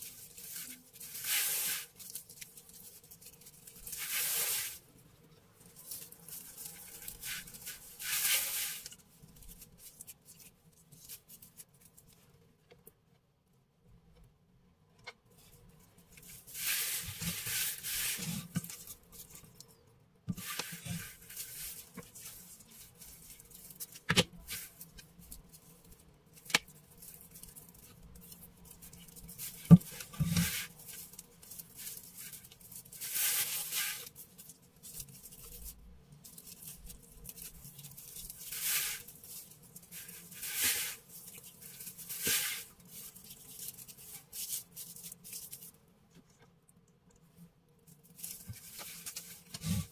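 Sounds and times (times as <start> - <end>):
raffia strands rustling: 0.0 - 12.3, 15.4 - 19.7, 20.3 - 46.4, 47.8 - 49.9.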